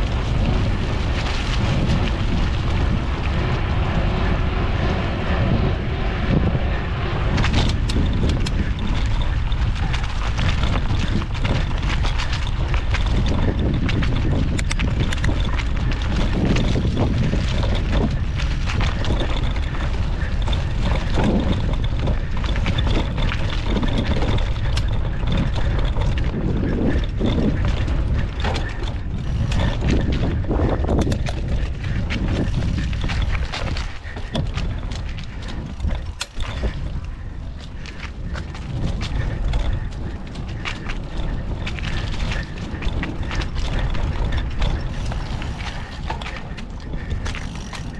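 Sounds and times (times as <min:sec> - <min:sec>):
bike rattling over bumps: 0:00.0 - 0:47.9
wind and tyre rumble: 0:00.0 - 0:47.9.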